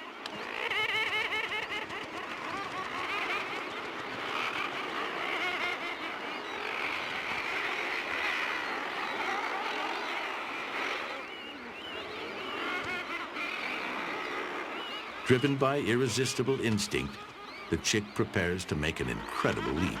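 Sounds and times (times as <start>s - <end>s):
seabirds calling in chorus: 0.0s - 20.0s.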